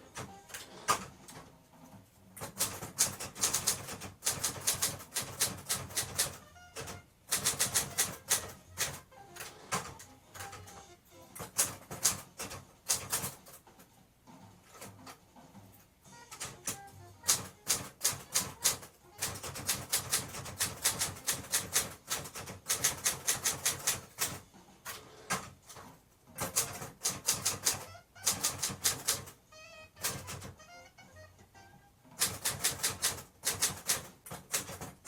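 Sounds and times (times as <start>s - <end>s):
manual typewriter keystrokes: 2.4s - 13.8s, 16.1s - 30.7s, 32.1s - 35.0s.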